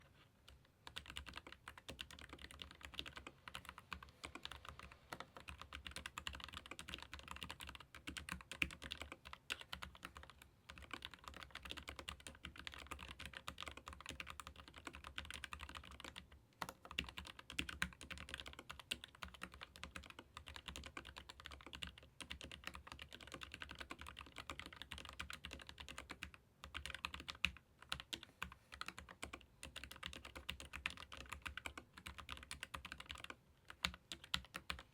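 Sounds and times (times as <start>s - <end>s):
typing on mechanical keyboard: 0.5s - 34.9s.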